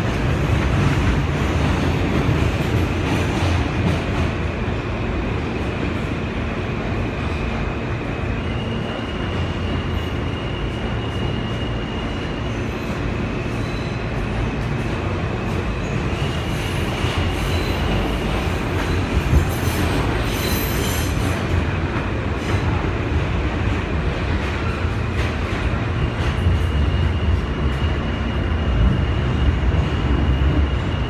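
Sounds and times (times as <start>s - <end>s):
subway car rumbling on track: 0.0s - 31.0s.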